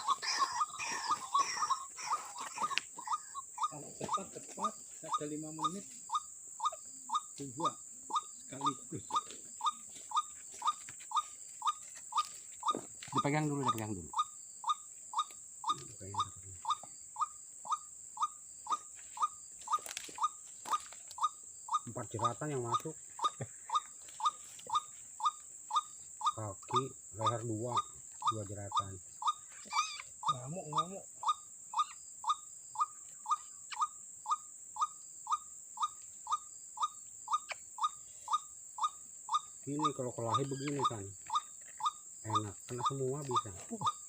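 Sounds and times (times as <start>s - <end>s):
waterhen calling: 0.0s - 32.0s, 37.4s - 41.5s.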